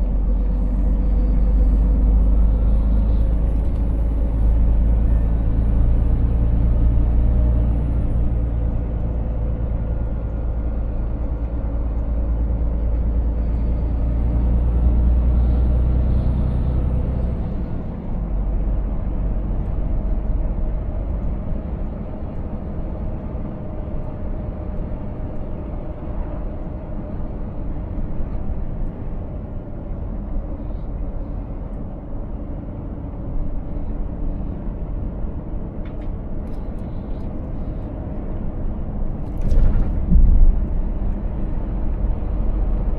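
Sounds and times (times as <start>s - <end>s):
road noise: 0.0s - 42.9s
truck diesel engine running: 0.0s - 42.9s.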